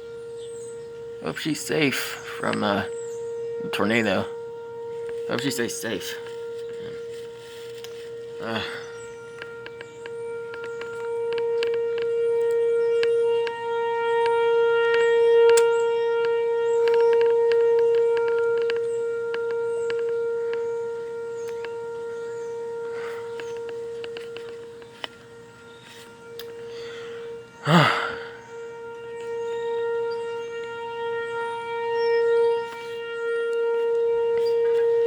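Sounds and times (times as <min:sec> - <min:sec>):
warning siren steady tone: 0:00.0 - 0:35.0.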